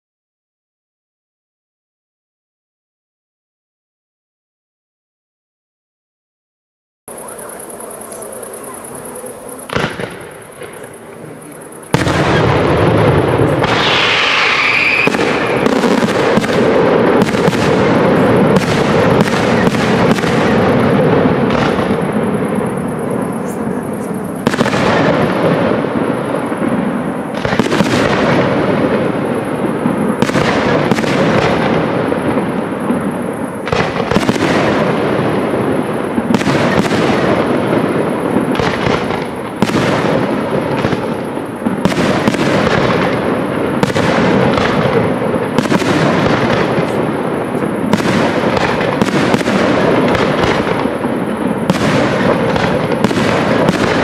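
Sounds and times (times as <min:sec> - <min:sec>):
fireworks bursting with loud bangs: 0:07.1 - 0:54.0.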